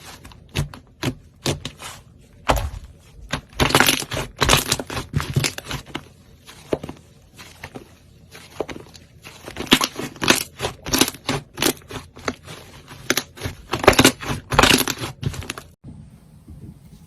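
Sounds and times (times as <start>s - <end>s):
knife cutting through dry soap: 0.0s - 15.8s.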